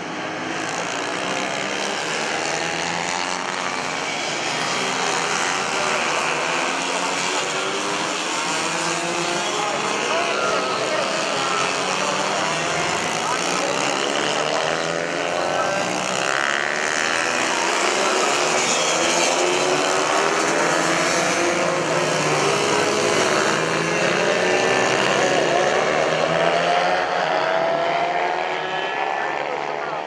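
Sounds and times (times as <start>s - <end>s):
mini bike engines racing: 0.0s - 30.0s.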